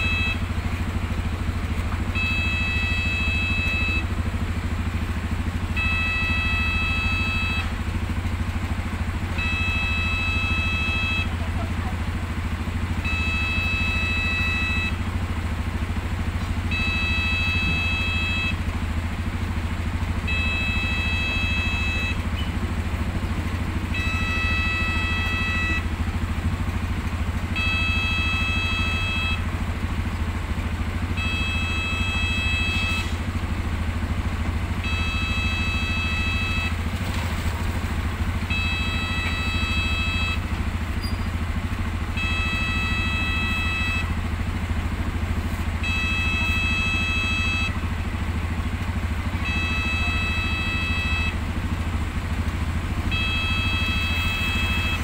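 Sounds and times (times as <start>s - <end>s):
level crossing warning tone: 0.0s - 37.0s, 38.0s - 45.1s, 45.7s - 55.0s.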